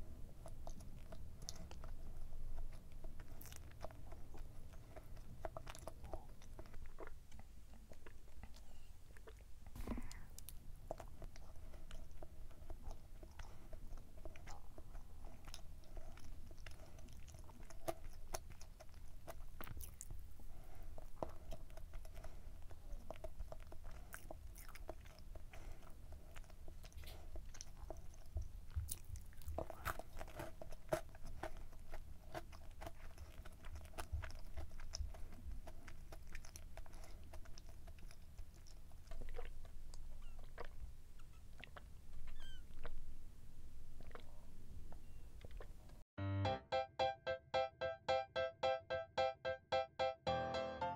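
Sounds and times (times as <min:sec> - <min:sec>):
chewing brownie: 0:00.0 - 0:46.1.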